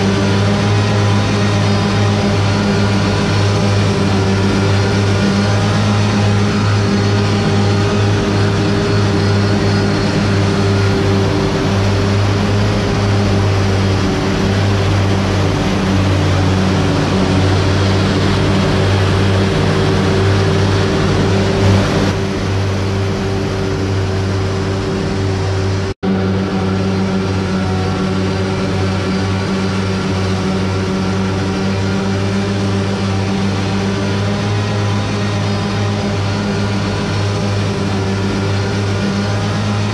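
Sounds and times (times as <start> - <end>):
harvester engine hum: 0.0 - 39.9
rush of machinery: 0.0 - 39.9.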